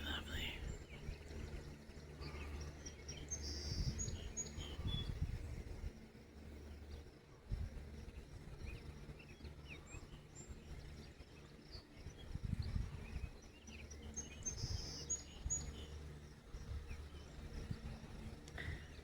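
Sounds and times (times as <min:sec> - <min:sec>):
birds chirping: 0:00.0 - 0:19.0
low outdoor rumble: 0:00.0 - 0:19.0.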